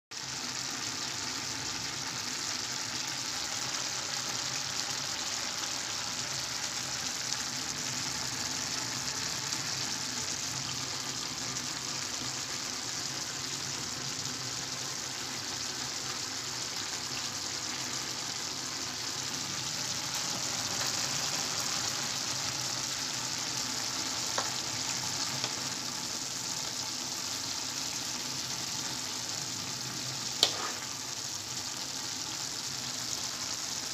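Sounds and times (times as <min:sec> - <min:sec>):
rice sizzling in a pan: 0:00.1 - 0:33.9.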